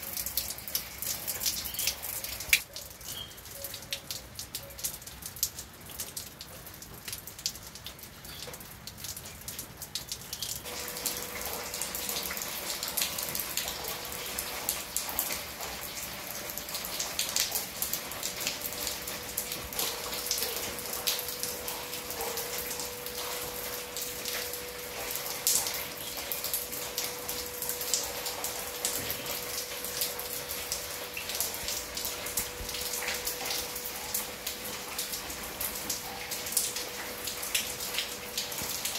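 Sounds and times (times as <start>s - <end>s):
rain falling: 0.0s - 38.9s
raindrops clicking on surfaces: 0.0s - 38.9s.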